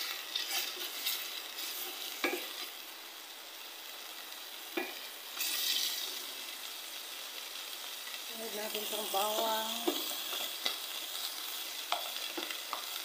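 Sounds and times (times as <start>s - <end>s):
fat sizzling in a pot: 0.0s - 13.0s.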